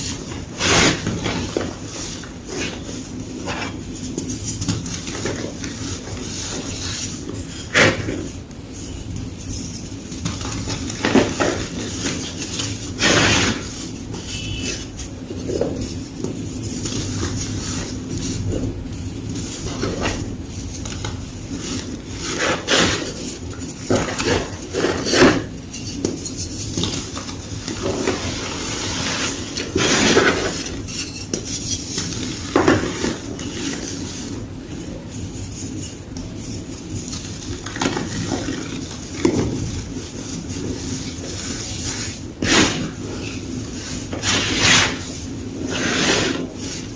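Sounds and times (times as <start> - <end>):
chalk crunching and crumbling: 0.0 - 46.9
steady low hum: 0.0 - 46.9.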